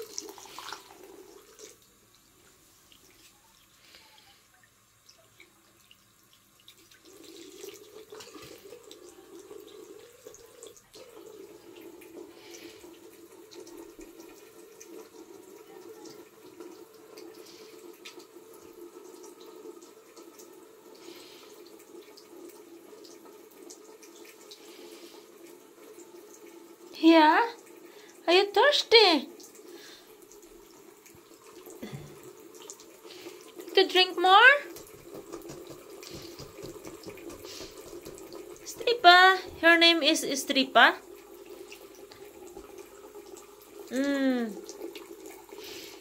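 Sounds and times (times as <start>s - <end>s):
faucet running into sink: 0.0s - 46.0s.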